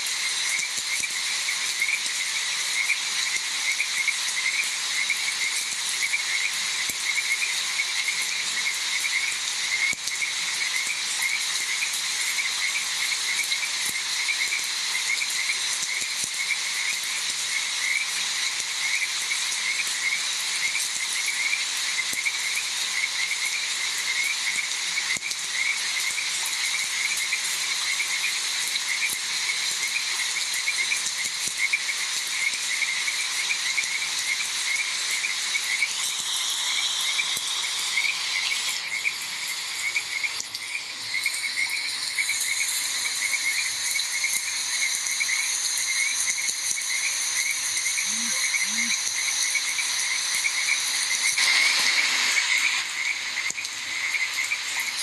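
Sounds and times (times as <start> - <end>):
even hiss: 0.0 - 55.0
frogs croaking: 0.0 - 55.0
high insect drone: 0.0 - 55.0.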